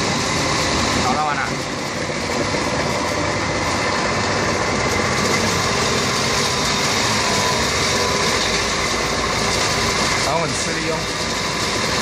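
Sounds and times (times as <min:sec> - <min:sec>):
grinding machine running: 0:00.0 - 0:12.0.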